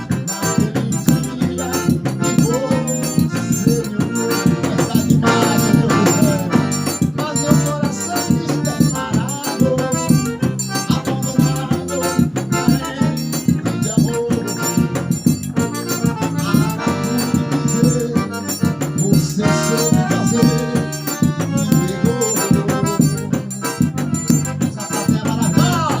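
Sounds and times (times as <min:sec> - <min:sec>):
accordion playing: 0:00.0 - 0:26.0.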